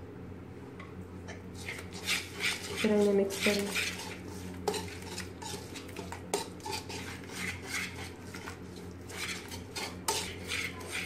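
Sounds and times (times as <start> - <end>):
whisk scraping a metal pot: 1.5 - 11.0.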